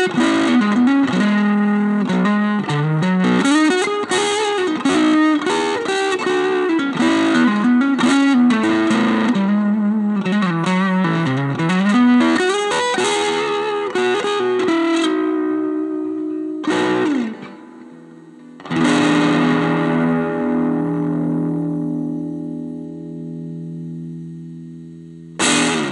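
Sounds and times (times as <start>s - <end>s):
electric guitar lead lines: 0.0s - 25.9s
guitar chord ringing out: 0.0s - 25.9s.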